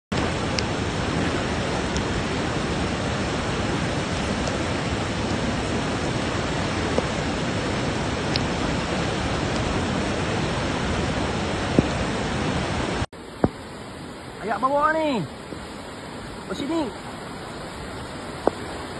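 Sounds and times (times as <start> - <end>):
floodwater rushing: 0.1 - 18.9
torrential rain: 0.1 - 18.9.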